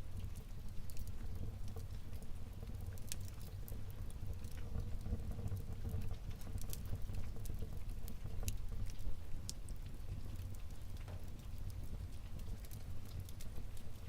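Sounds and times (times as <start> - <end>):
fire crackles and pops: 0.0 - 14.0
fire rumbling in a fireplace: 0.0 - 14.0.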